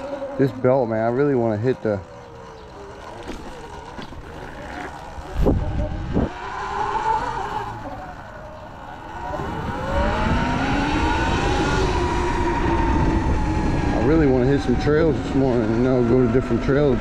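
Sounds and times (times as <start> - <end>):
electric motorbike motor whining: 0.0 - 17.0.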